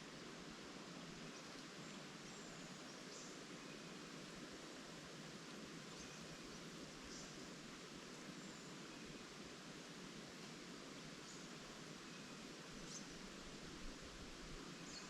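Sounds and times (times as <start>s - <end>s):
leaves rustling in wind: 0.0s - 15.0s.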